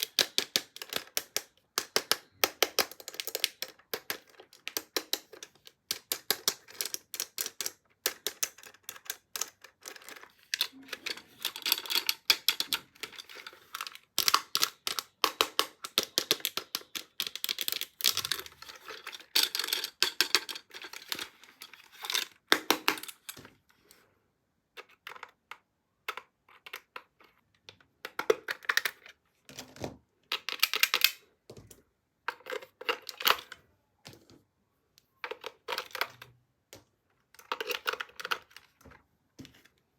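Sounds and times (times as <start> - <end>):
plastic toy clicking and tapping: 0.0 - 23.5, 24.8 - 29.1, 30.3 - 31.7, 35.2 - 39.0.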